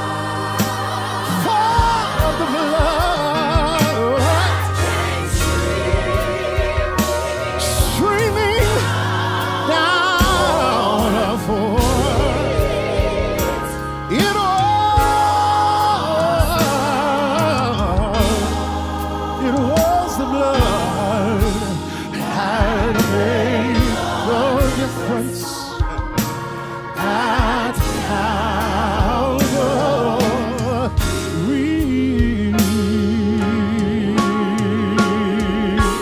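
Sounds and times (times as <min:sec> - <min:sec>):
gospel singing with backing vocals: 0:00.0 - 0:36.0
keyboards: 0:00.0 - 0:36.0.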